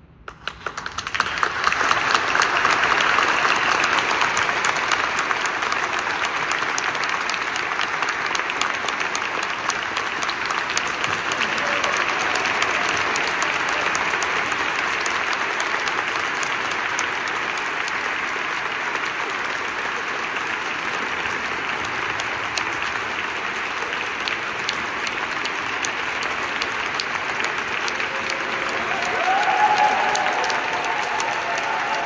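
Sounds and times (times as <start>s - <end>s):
audience applauding: 0.3s - 32.0s.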